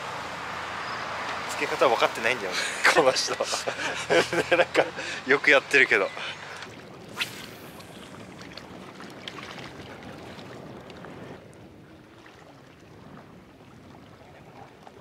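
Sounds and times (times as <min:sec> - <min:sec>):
sea water washing ashore: 0:00.0 - 0:15.0
wind: 0:00.0 - 0:15.0.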